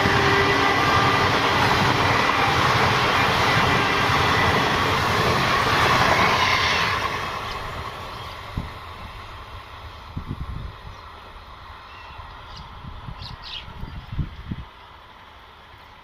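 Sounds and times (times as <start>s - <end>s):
express train passing at speed: 0.0s - 16.0s.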